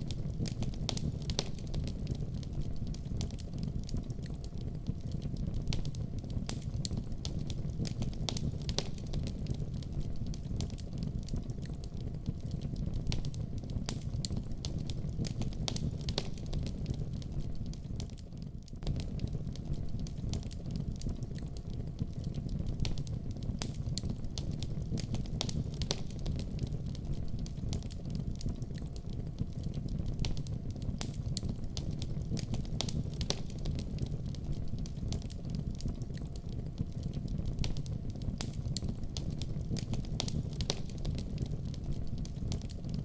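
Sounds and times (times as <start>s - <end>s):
fire crackling and popping: 0.0s - 43.0s
fire flames rumbling: 0.0s - 43.0s.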